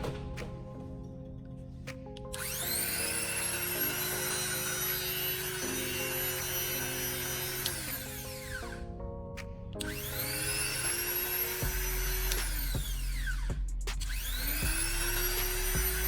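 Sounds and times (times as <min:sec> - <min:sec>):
electronic music tones: 0:00.0 - 0:16.0.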